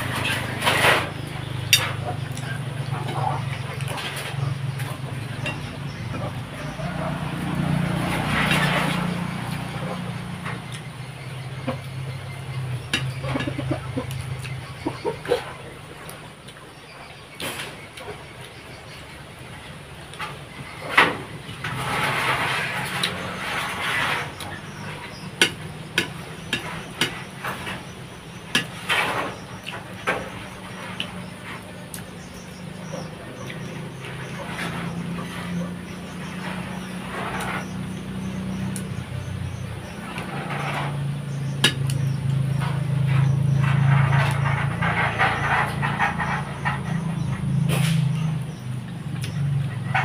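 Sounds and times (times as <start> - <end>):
crackly noises: 0.0 - 50.0.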